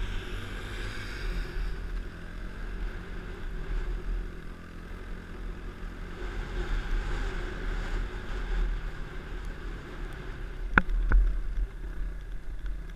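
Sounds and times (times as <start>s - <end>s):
low wind rumble: 0.0s - 12.9s.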